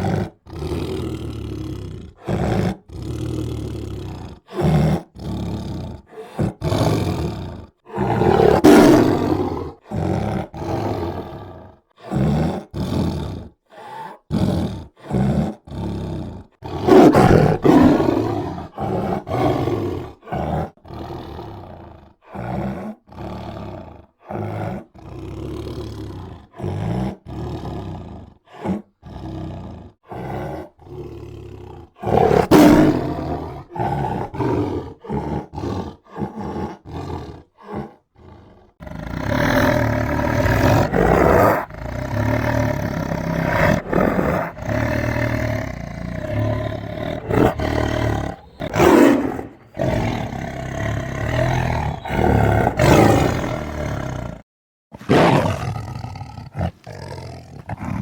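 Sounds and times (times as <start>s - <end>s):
tiger growling and roaring: 0.0s - 58.0s.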